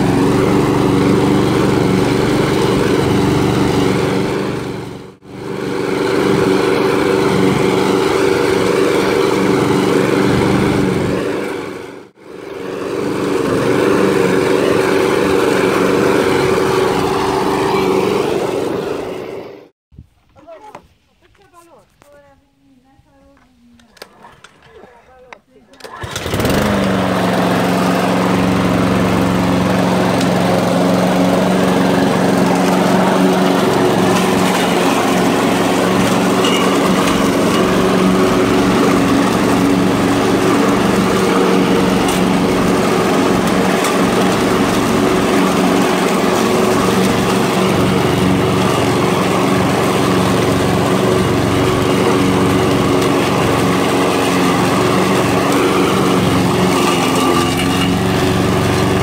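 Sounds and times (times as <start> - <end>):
lawn mower engine running: 0.0 - 19.7, 25.8 - 59.0.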